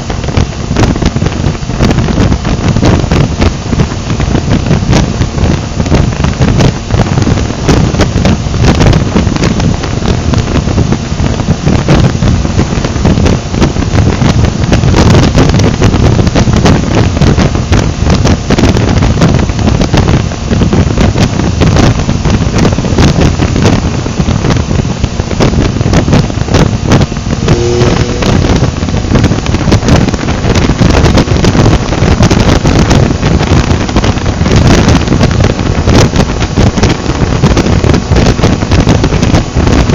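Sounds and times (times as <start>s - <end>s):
low motorcycle rumble: 0.0s - 39.9s
wind buffeting microphone: 0.0s - 39.9s.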